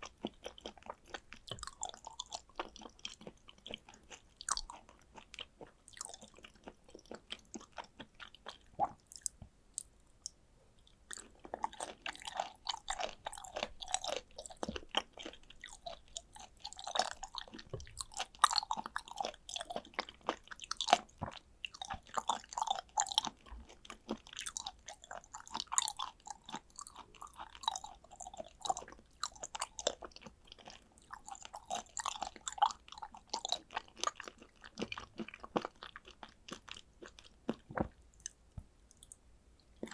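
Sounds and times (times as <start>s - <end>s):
person chewing and smacking: 0.0s - 39.9s.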